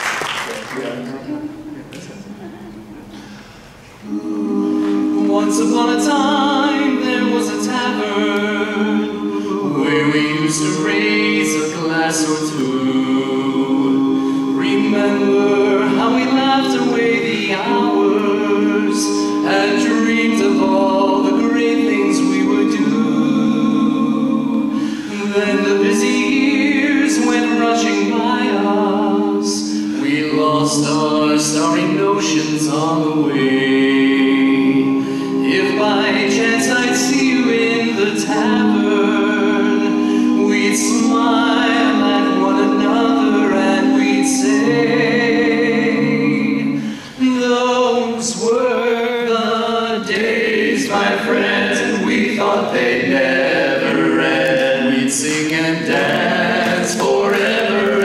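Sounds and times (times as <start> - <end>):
male quartet singing a cappella: 4.0 - 58.0.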